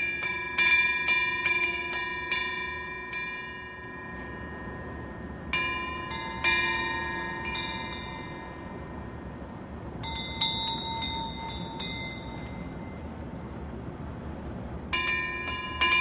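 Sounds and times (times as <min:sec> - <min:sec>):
metal wind bell ringing: 0:00.0 - 0:13.3, 0:14.9 - 0:16.0.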